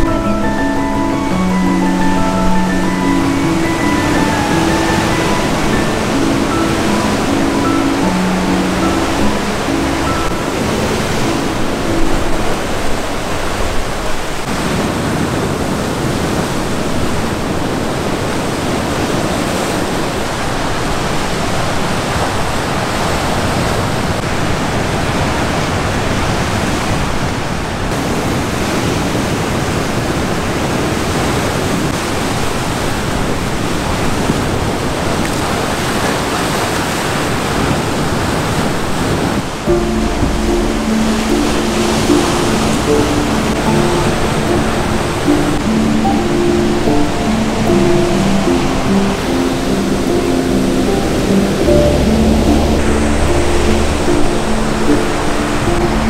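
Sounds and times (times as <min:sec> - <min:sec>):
sea surf breaking over rocks: 0:00.0 - 0:56.0.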